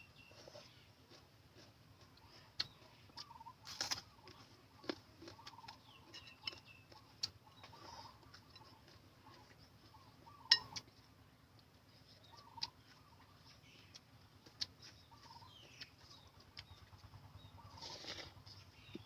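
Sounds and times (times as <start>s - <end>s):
chickens clucking: 0.3s - 3.6s, 4.2s - 11.2s, 11.8s - 19.0s.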